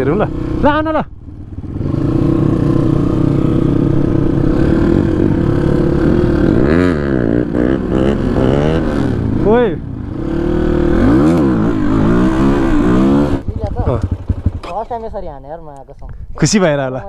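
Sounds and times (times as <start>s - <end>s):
dirt bike engine running: 0.0s - 15.4s.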